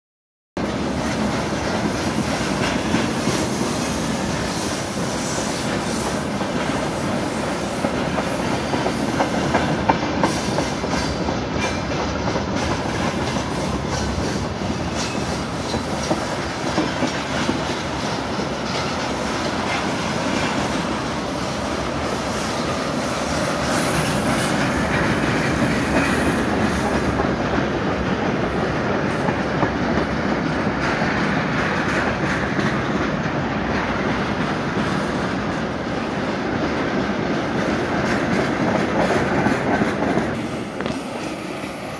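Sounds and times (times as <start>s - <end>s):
train wheels rumbling on rails: 0.6s - 41.9s.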